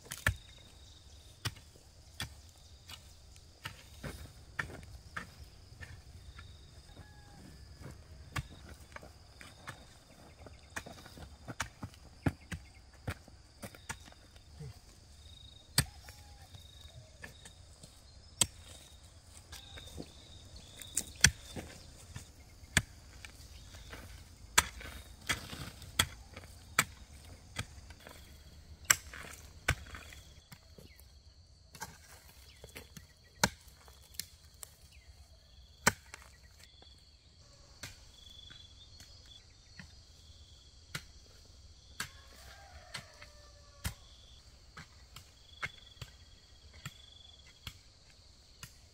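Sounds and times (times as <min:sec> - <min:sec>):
insects chirping: 0:00.0 - 0:48.9.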